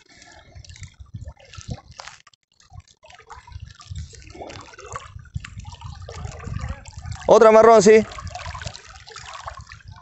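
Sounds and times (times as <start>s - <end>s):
river water splashing: 0.0s - 10.0s.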